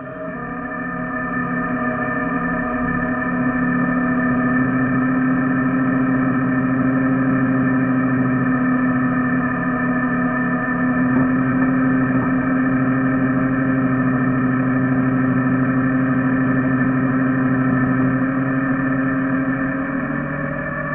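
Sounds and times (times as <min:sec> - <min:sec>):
truck engine running under load: 0:01.8 - 0:20.9.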